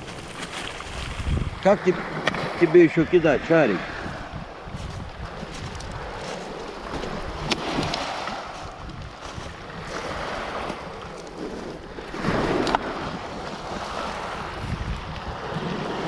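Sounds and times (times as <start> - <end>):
waves lapping on pebble beach: 0.0 - 16.0
wind on microphone: 0.0 - 16.0.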